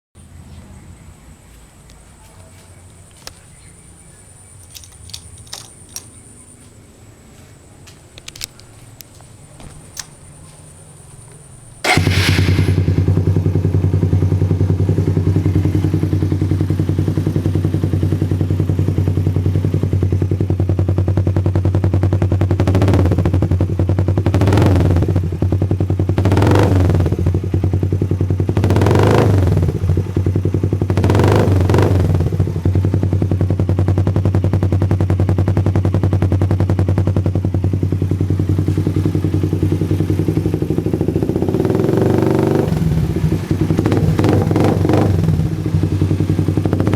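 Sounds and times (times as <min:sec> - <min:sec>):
motorcycle engine idling and revving: 0:00.3 - 0:46.9.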